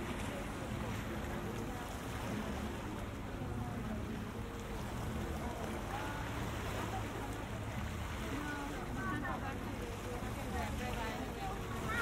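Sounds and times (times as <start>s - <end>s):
faint distant voices: 0.0s - 12.0s
low rumble and hiss: 0.0s - 12.0s.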